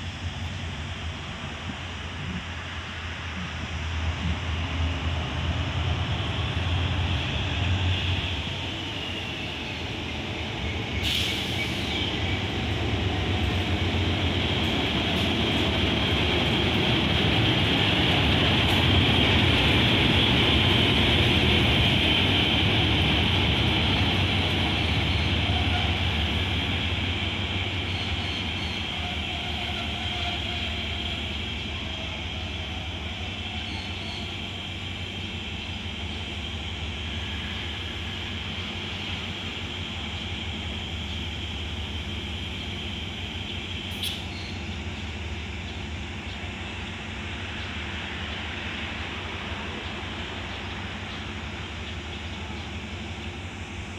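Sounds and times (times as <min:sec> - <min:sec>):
locomotive engine drone: 0:00.0 - 0:53.9
wheel-on-rail noise: 0:00.0 - 0:53.9.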